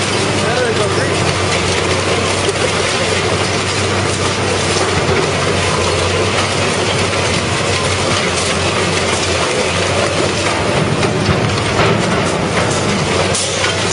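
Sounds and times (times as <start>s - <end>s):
shredder metal clatter and grinding: 0.0s - 13.9s.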